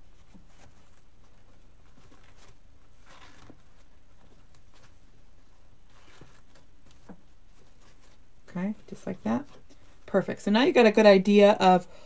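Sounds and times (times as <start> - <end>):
ribbon rustling and crinkling: 0.0 - 10.4.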